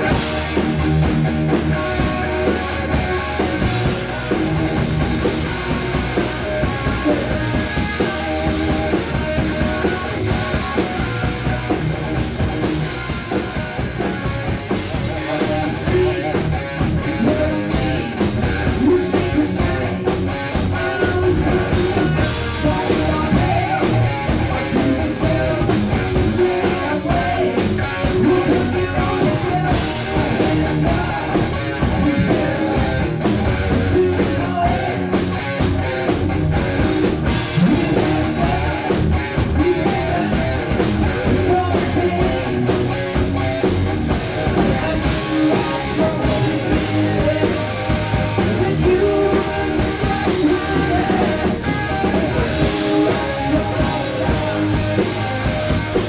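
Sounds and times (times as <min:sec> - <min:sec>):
drums hitting: 0:00.0 - 0:56.0
hard rock band playing: 0:00.0 - 0:56.0.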